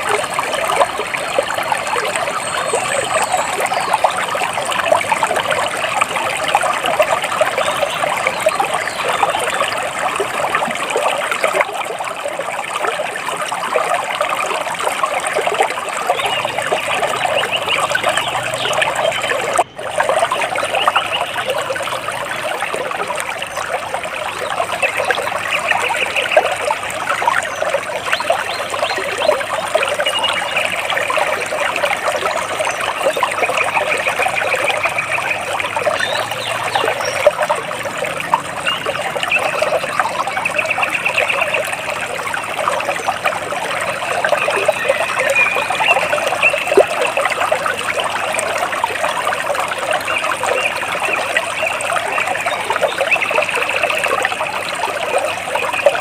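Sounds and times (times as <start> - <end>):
water splashing and trickling: 0.0 - 56.0.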